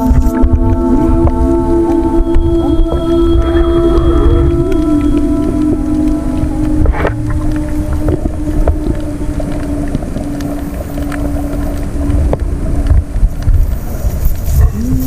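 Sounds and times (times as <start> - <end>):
heavy low rumbling: 0.0 - 15.0
low motor hum: 0.0 - 15.0
wind buffeting microphone: 0.0 - 15.0.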